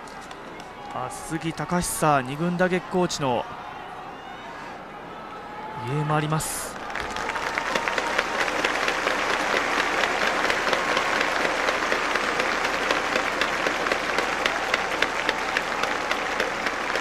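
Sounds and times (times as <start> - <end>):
crowd applauding: 0.0 - 3.5, 6.4 - 17.0.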